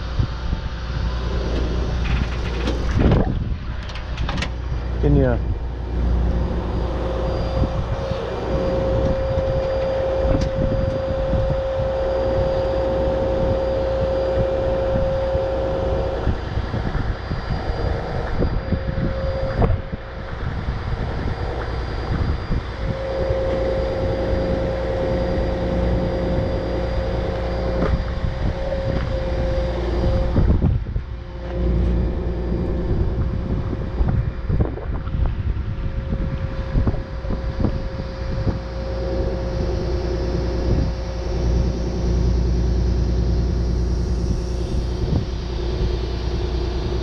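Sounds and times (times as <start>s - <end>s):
heavy machinery engine rumbling: 0.0s - 47.0s
high whine: 0.0s - 47.0s.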